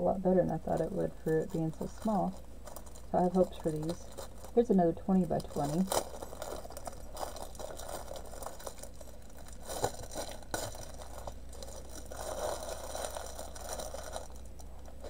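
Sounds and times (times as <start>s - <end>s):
plastic packaging crinkling: 0.4s - 15.0s.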